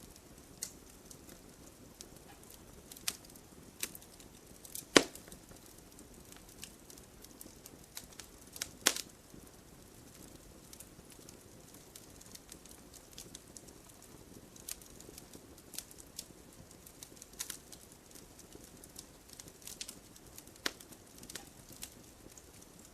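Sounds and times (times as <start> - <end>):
wood logs crackling in fireplace: 0.0 - 22.9.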